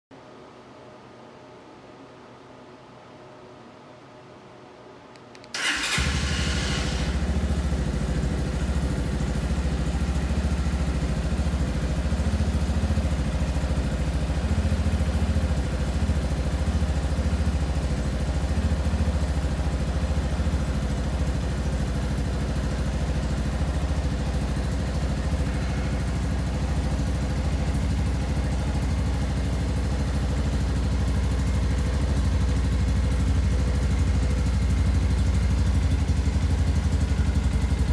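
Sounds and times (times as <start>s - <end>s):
motorcycle engine starting and idling: 5.4s - 37.9s.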